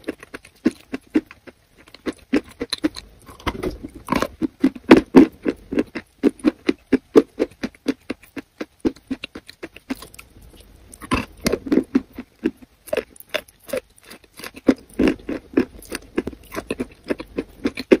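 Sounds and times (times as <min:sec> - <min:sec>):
chewing crumbly chalk: 0:00.0 - 0:18.0.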